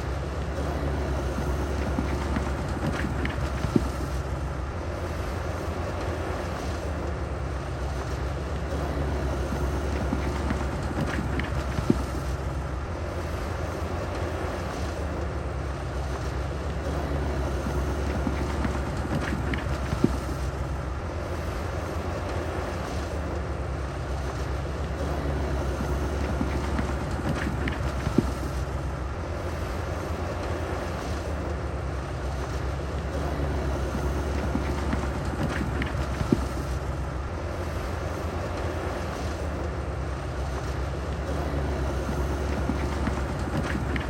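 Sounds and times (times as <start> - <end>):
diesel construction machinery running: 0.0 - 44.0.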